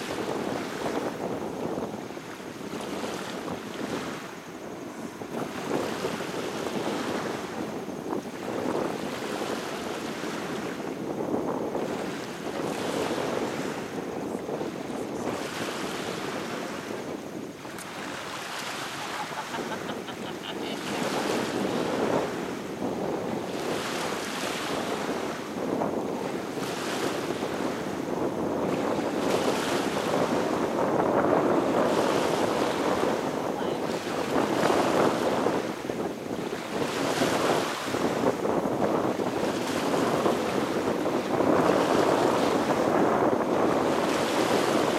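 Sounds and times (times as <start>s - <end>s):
small waves washing onto shore: 0.0s - 44.9s
wind noise on microphone: 0.0s - 44.9s.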